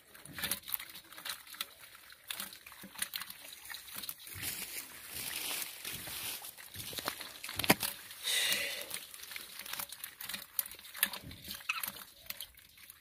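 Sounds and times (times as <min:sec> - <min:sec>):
wet grass and mud tearing: 0:00.0 - 0:12.4.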